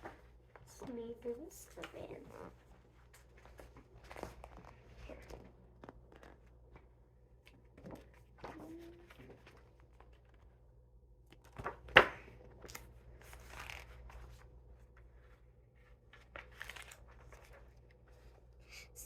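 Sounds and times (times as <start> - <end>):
book pages rustling: 0.0 - 10.6, 11.3 - 18.4.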